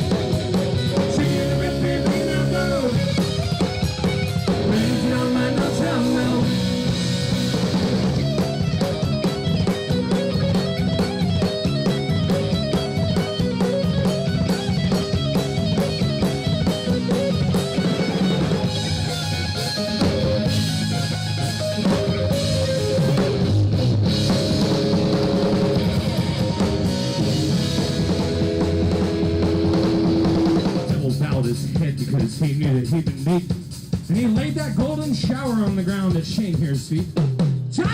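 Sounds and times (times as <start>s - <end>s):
drum kit beat: 0.0s - 37.9s
guitar: 0.0s - 37.9s
live rock band playing: 0.0s - 37.9s.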